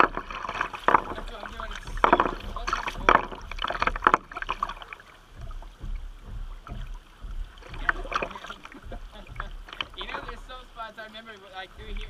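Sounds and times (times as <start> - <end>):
kayak paddle splashing: 0.0 - 12.0
water around boat: 0.0 - 12.0.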